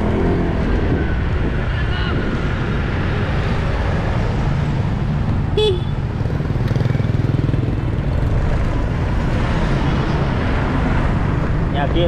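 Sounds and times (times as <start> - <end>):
motorbike engine and road noise: 0.0 - 12.0.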